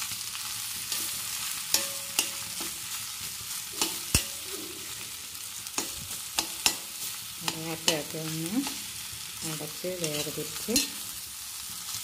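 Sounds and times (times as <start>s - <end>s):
potatoes frying sizzle: 0.0s - 12.0s
spatula clicking and scraping pan: 0.3s - 4.5s, 5.6s - 12.0s.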